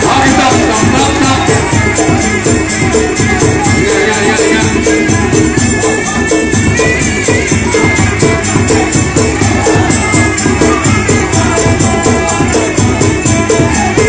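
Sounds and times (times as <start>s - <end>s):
hand drums: 0.0s - 14.0s.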